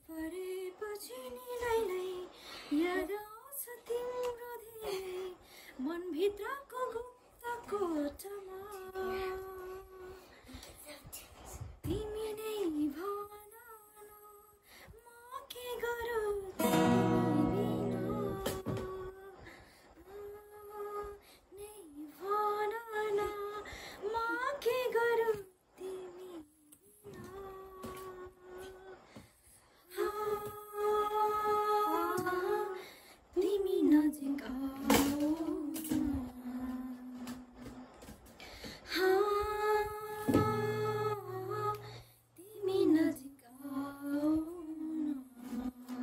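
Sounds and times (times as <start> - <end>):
woman singing: 0.0 - 11.2, 11.8 - 29.2, 29.8 - 38.1, 38.8 - 46.0.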